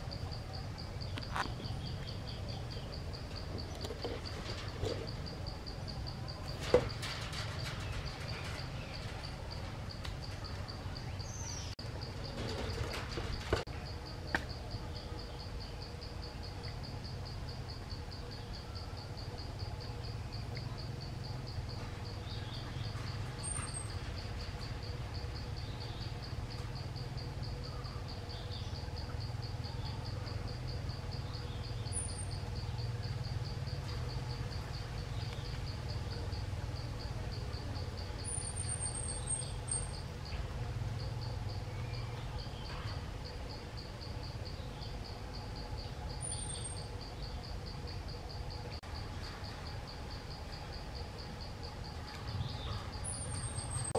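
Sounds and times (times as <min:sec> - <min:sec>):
insect trill: 0:00.0 - 0:53.9.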